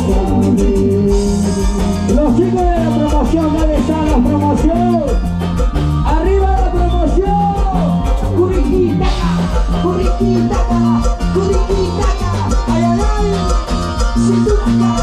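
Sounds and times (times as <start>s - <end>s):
live band playing carnival music: 0.0s - 15.0s.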